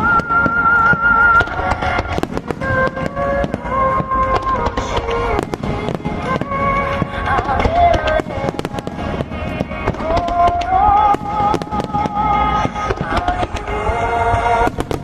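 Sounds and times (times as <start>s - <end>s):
fireworks bursting: 0.0s - 15.0s
music with gliding melody: 0.0s - 15.0s.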